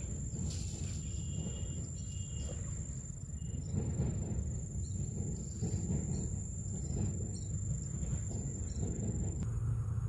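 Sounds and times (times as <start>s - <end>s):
insects droning: 0.0s - 10.0s
low uneven rumble: 0.0s - 10.0s.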